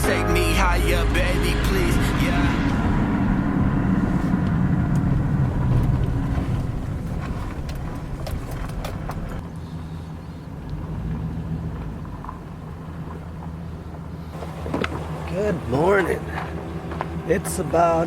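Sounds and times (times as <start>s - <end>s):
motor vehicle engine rumbling: 0.0s - 18.0s.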